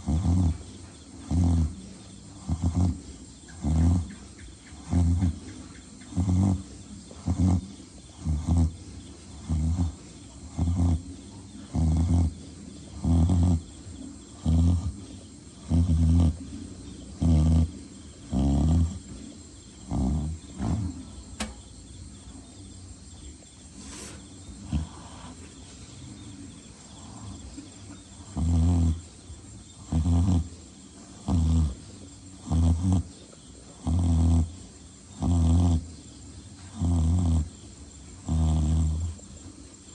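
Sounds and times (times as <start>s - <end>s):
pig snoring: 0.0s - 21.6s, 23.2s - 39.9s.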